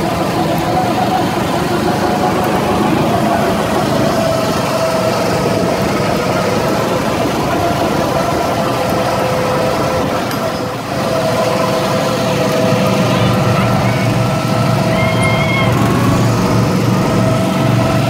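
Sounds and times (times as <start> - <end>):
go-kart engine running: 0.0 - 18.0
rushing noise: 0.0 - 18.0.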